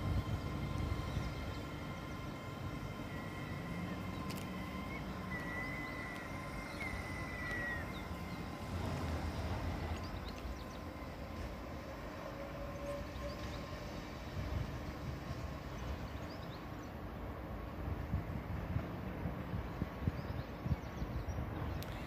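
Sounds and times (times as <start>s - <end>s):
train high whine: 0.0s - 22.0s
train rumble: 0.0s - 22.0s.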